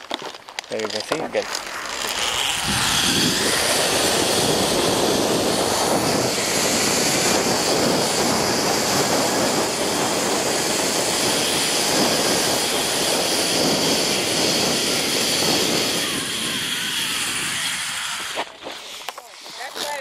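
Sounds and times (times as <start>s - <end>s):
zip-line pulleys whirring: 0.0s - 20.0s
wind rushing past: 2.0s - 18.3s.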